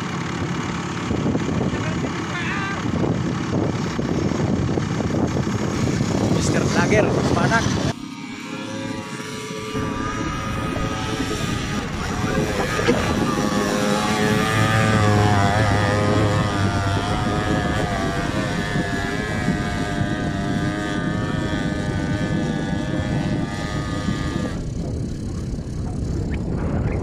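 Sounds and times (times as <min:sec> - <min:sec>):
quad bike engine revving: 0:00.0 - 0:27.0.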